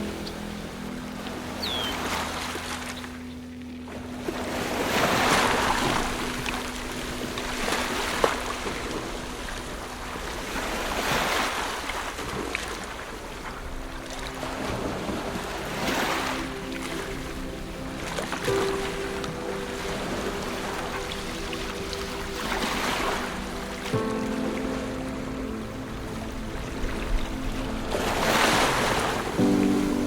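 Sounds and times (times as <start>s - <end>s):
ocean waves breaking: 0.0s - 30.0s.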